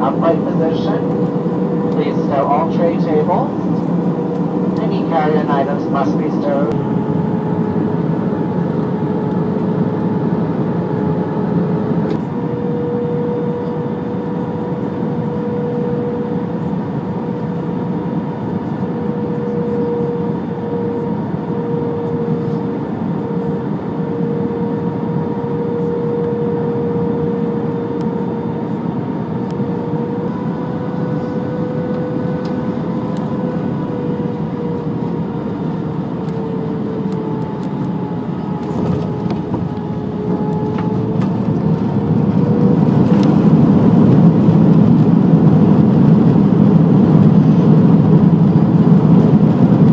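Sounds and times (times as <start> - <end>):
jet engine and airflow roar: 0.0 - 49.9
steady cabin hum: 0.0 - 49.9.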